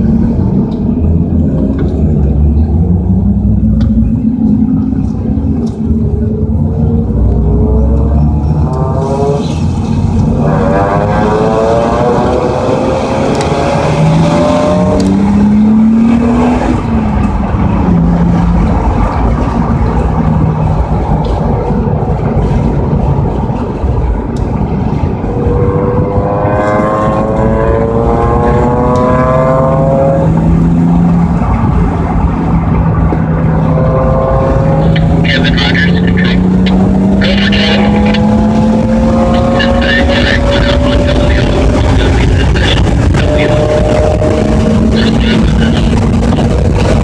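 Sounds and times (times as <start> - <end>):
car engine accelerating: 0.0 - 47.0
road and wind noise: 0.0 - 47.0.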